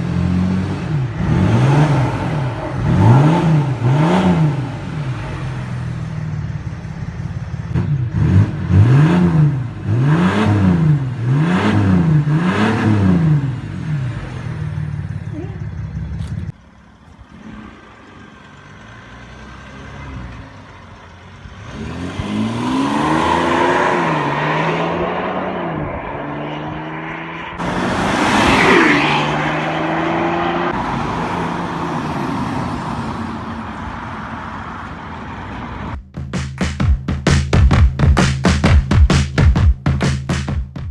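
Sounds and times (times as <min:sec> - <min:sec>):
diesel engine accelerating: 0:00.0 - 0:40.4.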